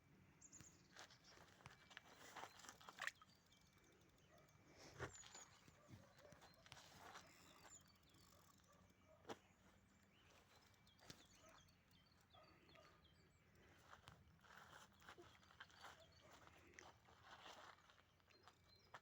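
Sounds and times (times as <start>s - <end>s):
small birds chirping: 0.5s - 19.0s.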